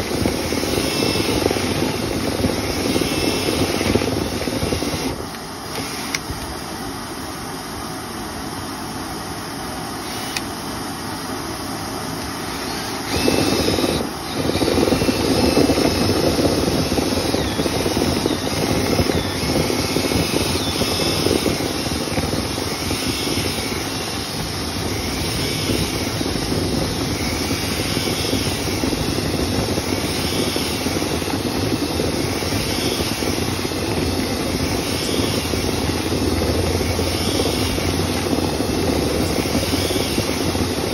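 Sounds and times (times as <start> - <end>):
cleaning machine whirring: 0.0 - 40.9.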